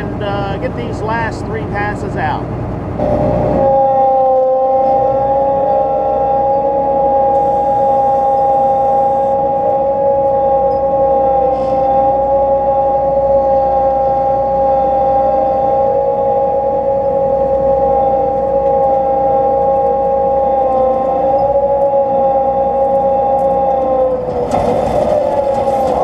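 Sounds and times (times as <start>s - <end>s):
combine harvester whining: 0.0s - 26.0s.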